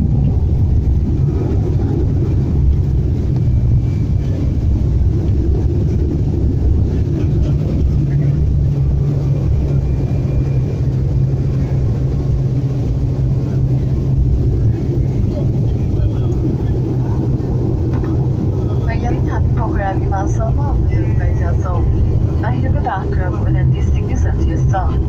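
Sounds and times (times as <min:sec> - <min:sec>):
airliner engines in cabin: 0:00.0 - 0:25.0
low hum: 0:00.0 - 0:25.0.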